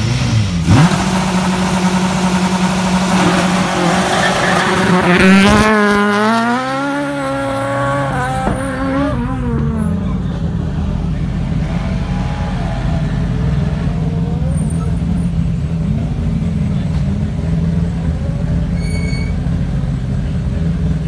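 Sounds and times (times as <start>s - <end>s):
rally car engine revving away: 0.0s - 18.8s
low engine rumble: 0.4s - 21.0s.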